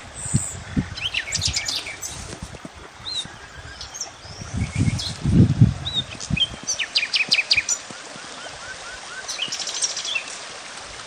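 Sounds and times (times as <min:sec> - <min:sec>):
songbirds chirping: 0:00.0 - 0:10.4
steady outdoor hiss: 0:00.0 - 0:11.0.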